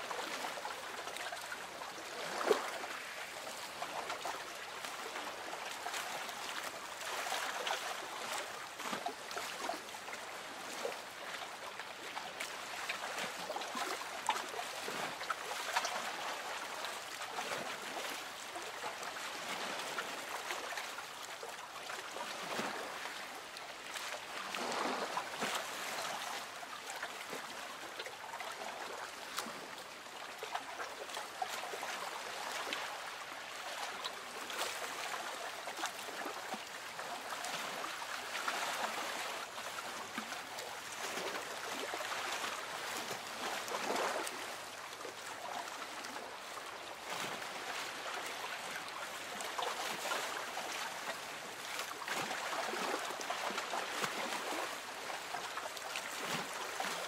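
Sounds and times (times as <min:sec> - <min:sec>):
small water splashes and trickles: 0:00.0 - 0:57.0
water lapping against boat hull: 0:00.0 - 0:57.0.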